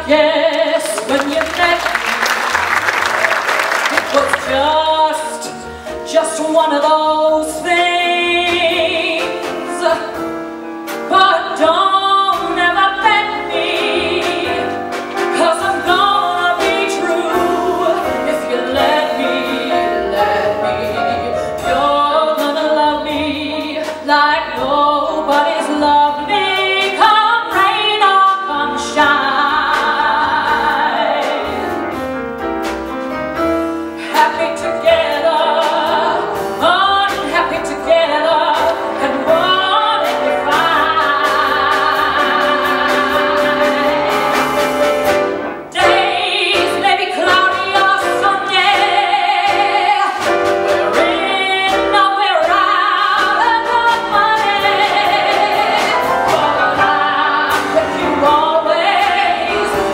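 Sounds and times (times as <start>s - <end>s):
woman singing jazz with vibrato: 0.0s - 32.2s, 33.8s - 59.9s
piano: 0.0s - 59.9s
upright double bass: 0.0s - 59.9s.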